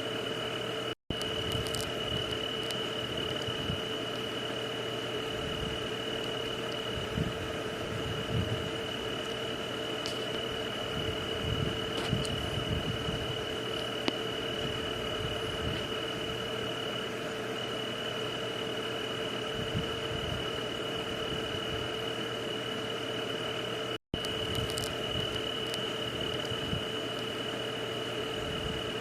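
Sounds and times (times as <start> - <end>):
hissing humming background: 0.0 - 29.0
insect chorus chirring: 0.0 - 29.0.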